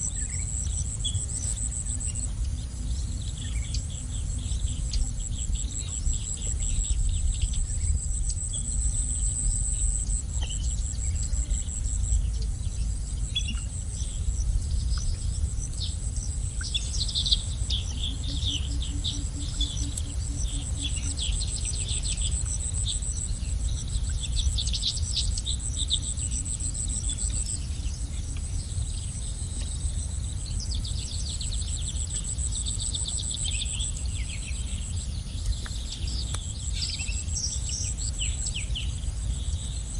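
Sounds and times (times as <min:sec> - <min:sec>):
insect trill: 0:00.0 - 0:39.9
small songbirds chirping: 0:00.0 - 0:39.9
steady low rumble: 0:00.0 - 0:39.9.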